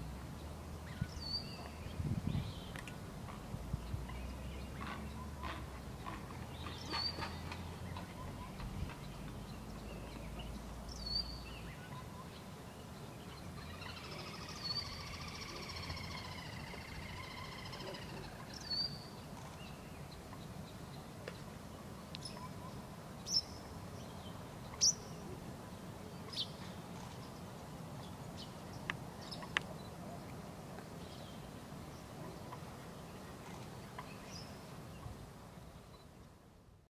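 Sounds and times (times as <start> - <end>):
warbling birdsong: 0.0 - 30.3
small birds chirping: 0.3 - 30.3.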